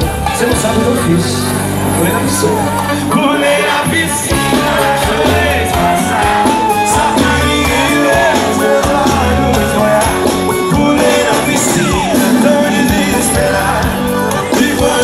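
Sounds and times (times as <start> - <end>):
live band music: 0.0 - 15.0
person singing: 2.2 - 15.0.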